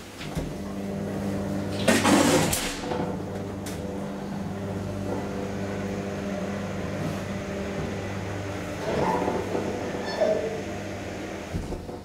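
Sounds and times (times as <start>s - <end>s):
elevator doors sliding shut: 0.0s - 12.0s
elevator pump motor humming: 0.0s - 12.0s.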